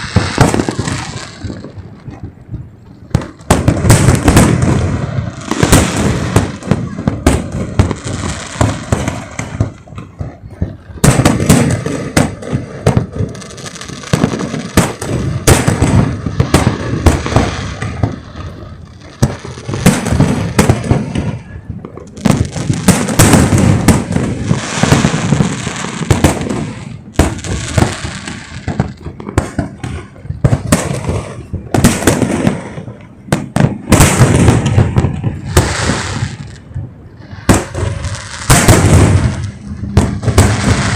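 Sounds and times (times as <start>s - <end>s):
firework shell bursts and crackling: 0.0s - 40.9s.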